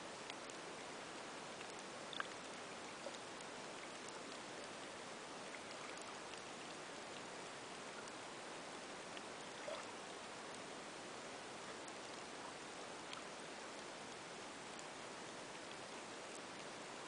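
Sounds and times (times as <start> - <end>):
faint clicks and ticks: 0.0 - 17.0.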